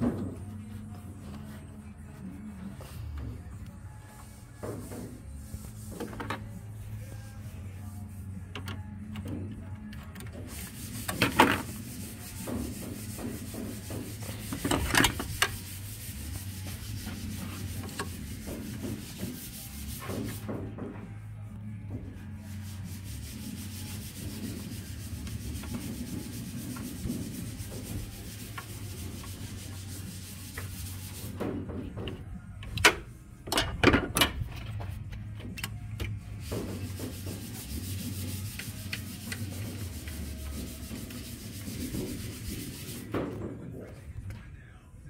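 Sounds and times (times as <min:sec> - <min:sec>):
rubber hose rubbing and scraping: 0:00.0 - 0:32.4, 0:34.3 - 0:44.3.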